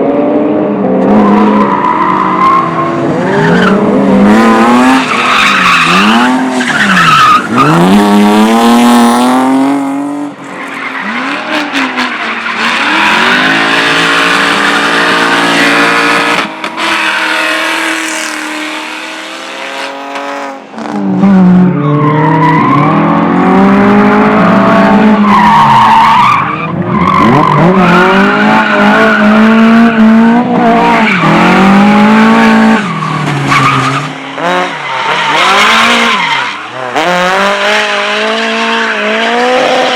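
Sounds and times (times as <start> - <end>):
car engine revving hard: 0.0 - 10.4, 11.0 - 25.8, 27.0 - 39.9.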